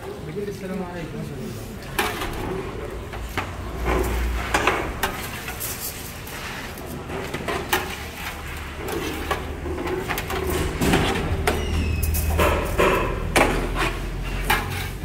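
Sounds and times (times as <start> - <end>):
metal spatula scraping roasting pan: 1.9 - 15.0.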